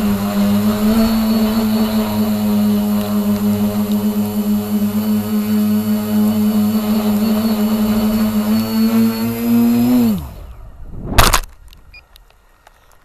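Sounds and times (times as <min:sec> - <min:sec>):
model helicopter motor whine: 0:00.0 - 0:10.8.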